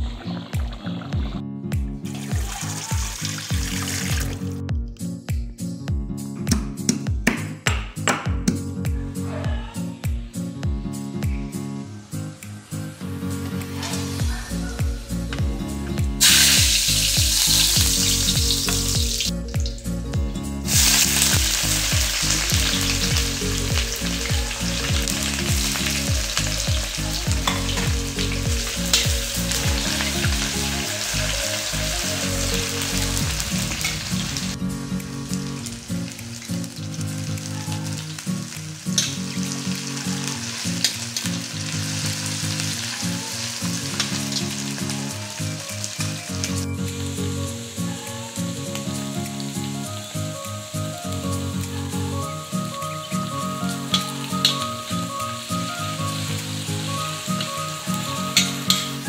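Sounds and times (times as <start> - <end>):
hot oil sizzling: 2.0 - 4.5, 11.8 - 59.0.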